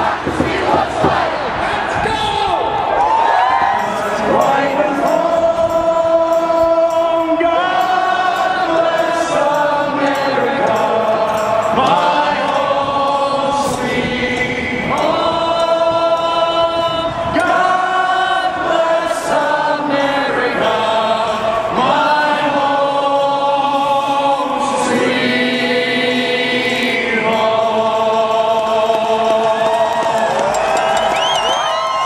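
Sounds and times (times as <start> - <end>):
crowd singing in unison: 0.0 - 32.0.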